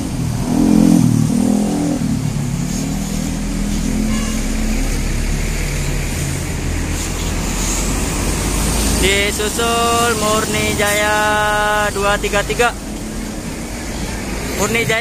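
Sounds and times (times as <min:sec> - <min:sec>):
diesel engine pulling away: 0:00.0 - 0:15.0.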